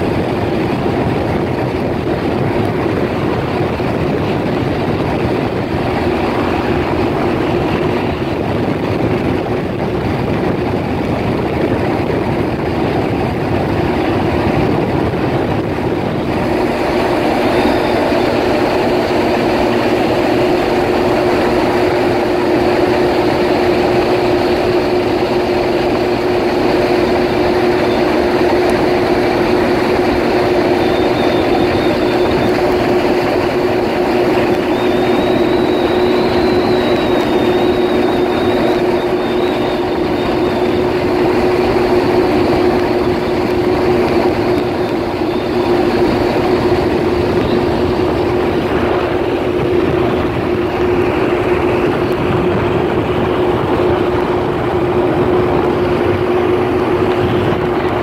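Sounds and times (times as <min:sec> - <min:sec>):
rushing water and wind: 0:00.0 - 0:58.0
watercraft engine drone: 0:00.0 - 0:58.0.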